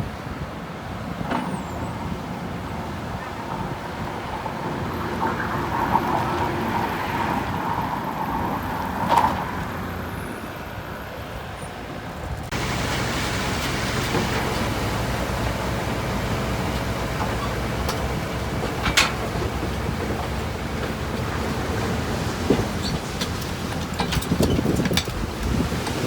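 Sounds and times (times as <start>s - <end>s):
heavy machinery diesel engine: 0.2s - 26.0s.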